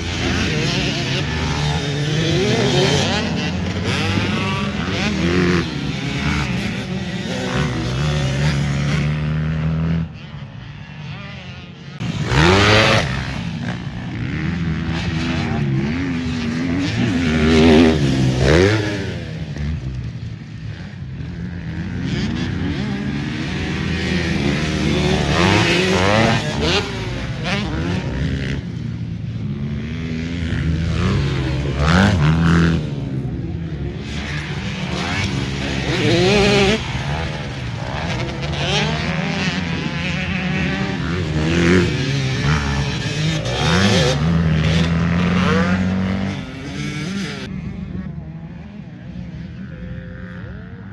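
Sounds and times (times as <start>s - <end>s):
motorcycle engines revving: 0.0s - 50.9s.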